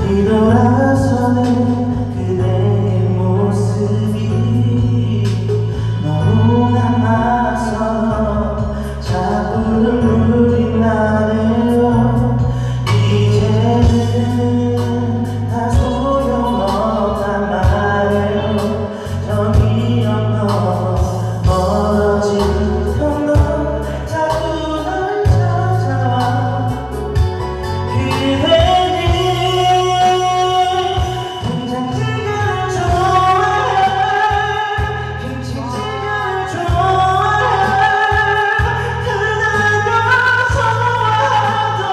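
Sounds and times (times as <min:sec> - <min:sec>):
instrumental backing with bass: 0:00.0 - 0:41.9
song with sung vocals: 0:00.0 - 0:41.9.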